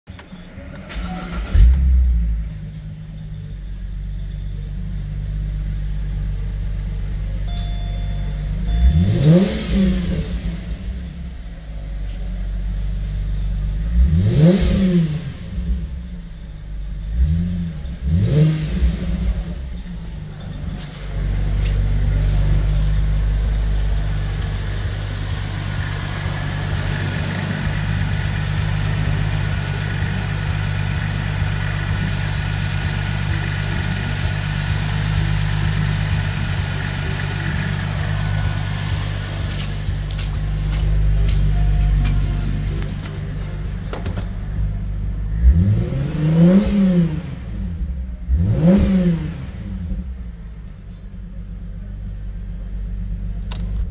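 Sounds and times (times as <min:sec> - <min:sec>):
car engine revving and idling: 0:00.0 - 0:53.9.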